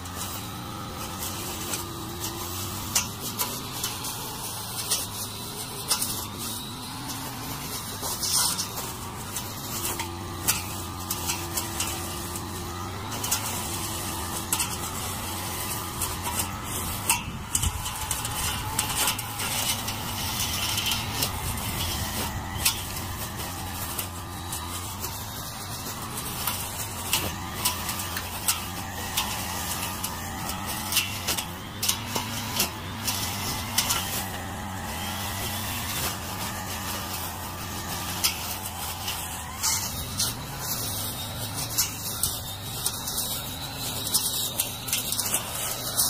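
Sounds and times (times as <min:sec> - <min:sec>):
brush cutter cutting grass: 0:00.0 - 0:46.0.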